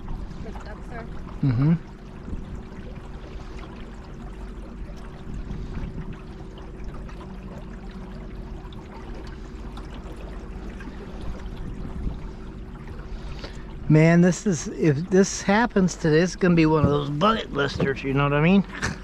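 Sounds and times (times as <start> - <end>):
steady low hum: 0.0 - 19.0
water splashing along boat hull: 0.0 - 19.0.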